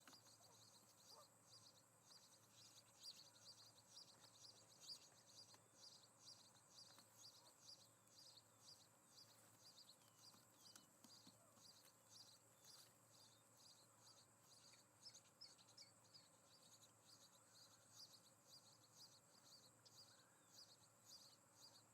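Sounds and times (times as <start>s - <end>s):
faint steady hiss: 0.0s - 21.9s.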